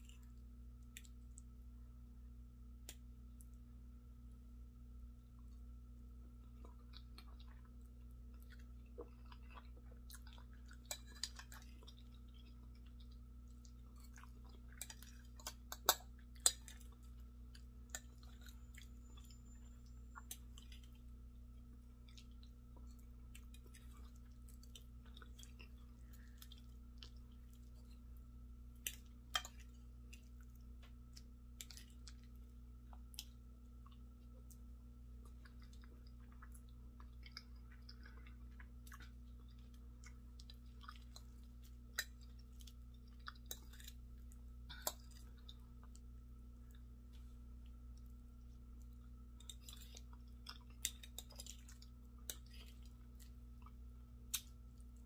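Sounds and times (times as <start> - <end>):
person chewing food: 0.0 - 1.6, 5.2 - 55.0.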